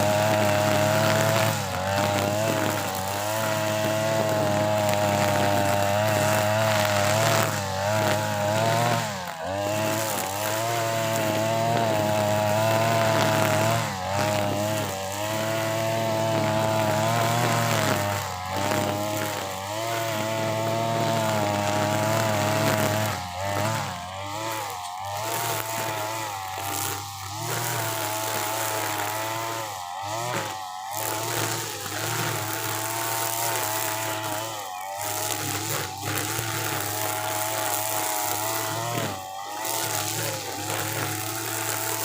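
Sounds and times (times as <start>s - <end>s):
brush cutter engine at full throttle: 0.0s - 42.0s
trimmer line cutting thick grass: 0.0s - 42.0s.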